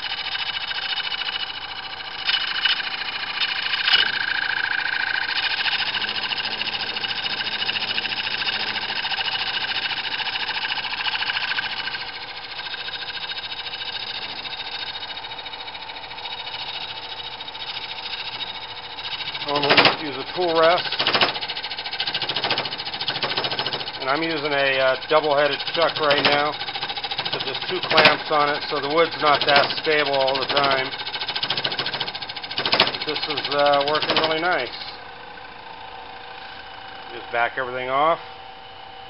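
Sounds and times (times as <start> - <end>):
cutting tool scraping spinning wood: 0.0 - 38.1
wood lathe motor hum: 0.0 - 39.0.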